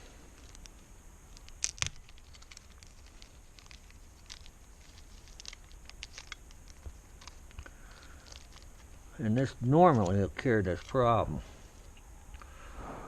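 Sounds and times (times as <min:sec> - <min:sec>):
small metal parts clicking: 0:00.4 - 0:11.1.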